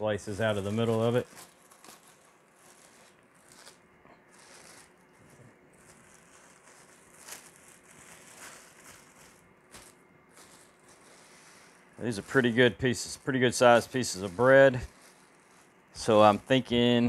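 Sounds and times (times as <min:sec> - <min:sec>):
plastic bag crinkling: 0:00.1 - 0:17.0.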